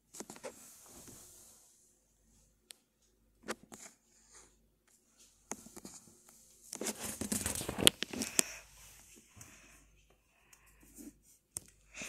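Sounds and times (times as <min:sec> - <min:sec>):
cord rustling and crackling: 0:00.0 - 0:01.6, 0:03.4 - 0:11.8.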